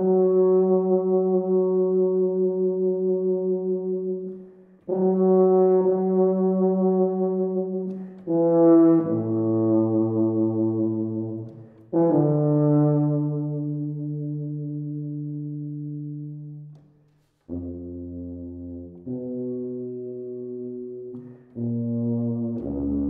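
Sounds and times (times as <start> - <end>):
tuba playing long notes: 0.0 - 16.8, 17.5 - 23.0.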